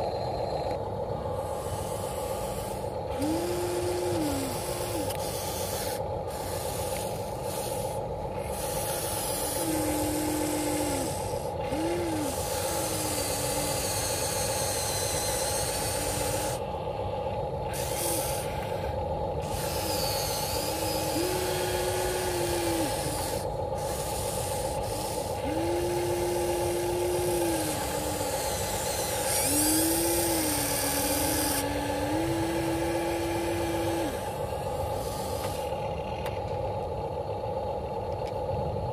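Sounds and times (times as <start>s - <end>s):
toy excavator motors whining: 0.0s - 36.9s
steady motor hum: 0.0s - 38.9s.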